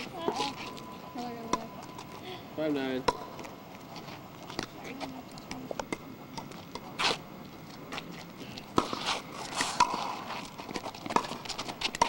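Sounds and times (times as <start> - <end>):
footsteps: 0.0 - 2.3, 3.0 - 12.0.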